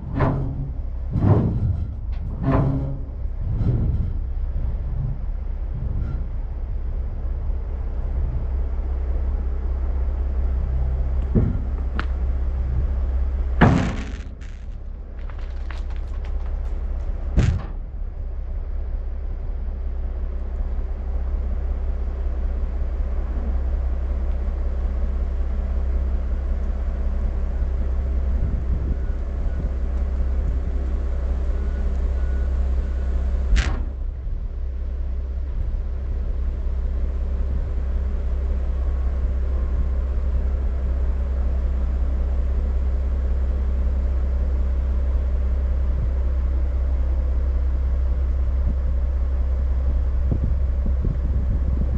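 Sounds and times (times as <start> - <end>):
diesel truck engine idling: 2.8 - 51.9.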